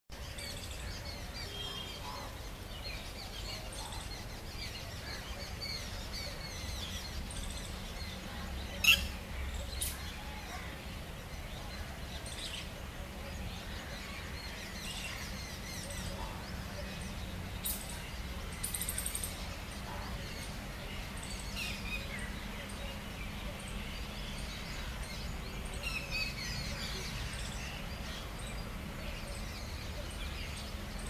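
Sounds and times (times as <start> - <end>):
birds chirping: 0.1 - 31.0.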